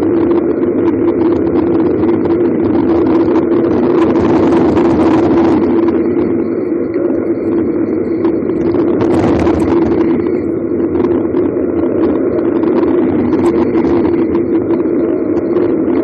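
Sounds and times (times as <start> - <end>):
bicycle tyres rolling on asphalt: 0.0 - 16.0
wind on microphone: 0.0 - 16.0.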